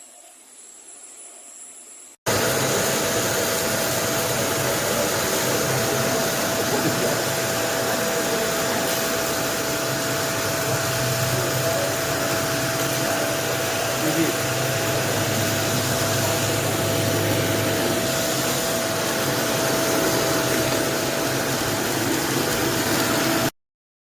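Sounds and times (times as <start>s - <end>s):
vacuum cleaner running: 0.0s - 23.5s.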